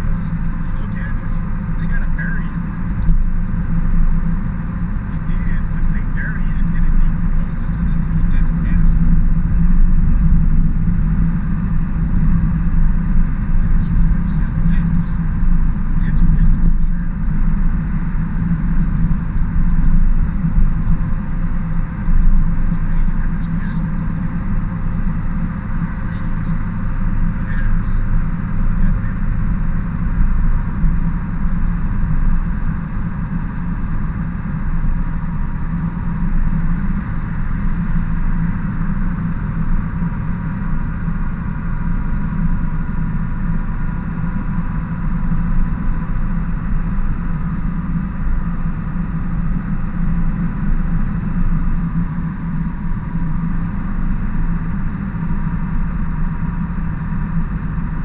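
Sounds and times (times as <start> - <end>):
truck engine and road noise: 0.0 - 58.0.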